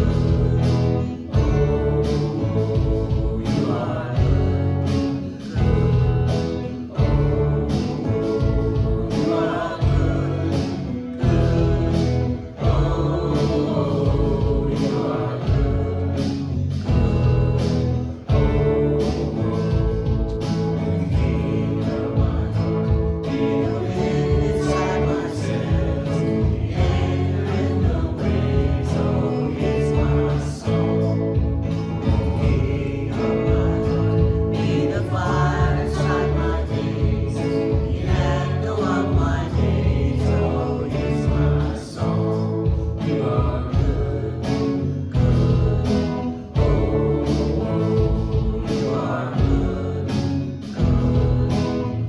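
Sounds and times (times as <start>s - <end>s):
guitar: 0.0s - 52.0s
live worship band playing: 0.0s - 52.0s
voices singing together: 0.0s - 52.0s.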